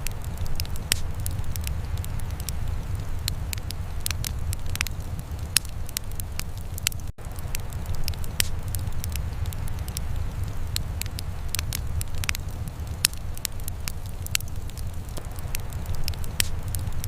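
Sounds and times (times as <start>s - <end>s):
fire popping and snapping: 0.0s - 17.0s
low fire rumble: 0.0s - 17.0s
wood fire crackling: 0.0s - 17.0s.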